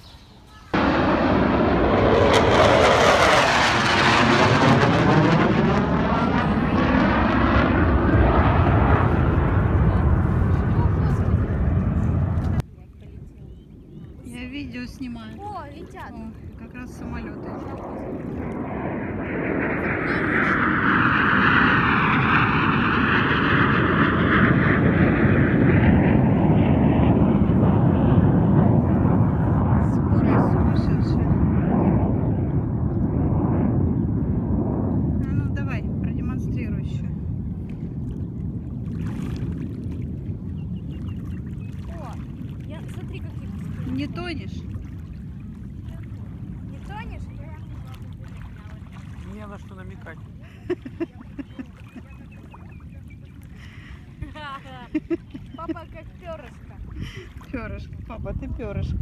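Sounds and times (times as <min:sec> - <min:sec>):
airplane flying overhead: 0:00.5 - 0:59.0.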